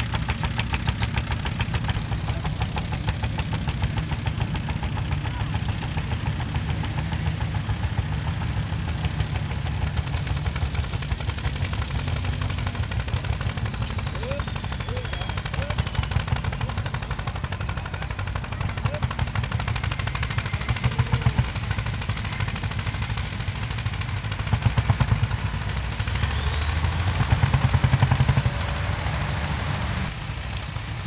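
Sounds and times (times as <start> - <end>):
tractor diesel engine chugging: 0.0 - 31.0.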